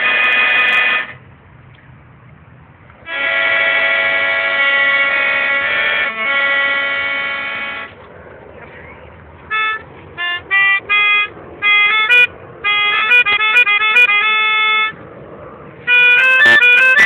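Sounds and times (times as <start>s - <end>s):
reedy wind instrument tune: 0.0s - 1.2s, 3.0s - 17.0s.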